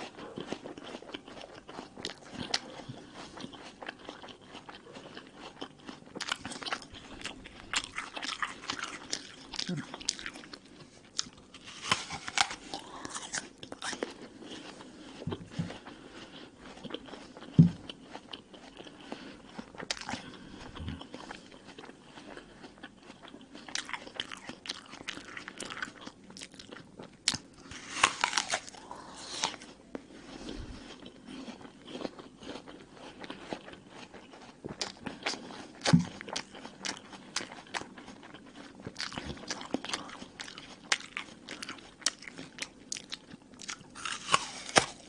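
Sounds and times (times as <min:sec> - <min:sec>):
apple crunching: 0:00.0 - 0:30.0, 0:30.9 - 0:45.0
wet chewing: 0:00.0 - 0:45.0.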